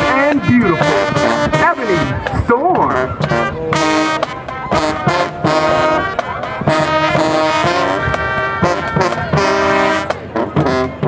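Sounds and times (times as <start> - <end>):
brass section chords: 0.0 - 11.0
marching band playing: 0.0 - 11.0.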